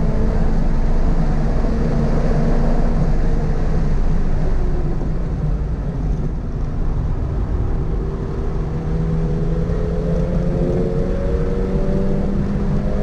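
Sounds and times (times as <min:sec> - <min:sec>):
road and tyre noise: 0:00.0 - 0:13.0.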